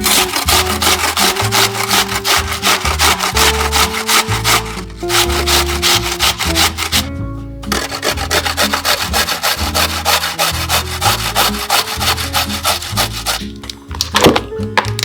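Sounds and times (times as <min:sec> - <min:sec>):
food grated on hand grater: 0:00.0 - 0:07.1, 0:07.7 - 0:13.5
background music with bass: 0:00.0 - 0:15.0.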